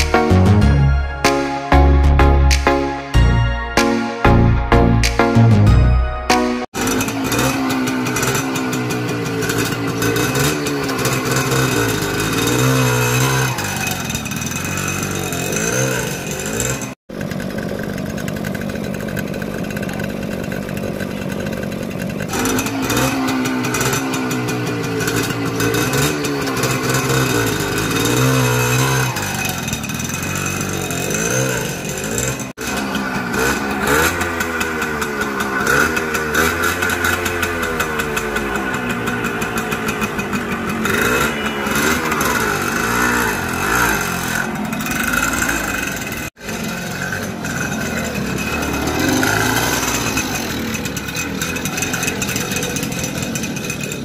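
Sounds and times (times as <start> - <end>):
two-stroke motorcycle engine revving: 6.6 - 54.0.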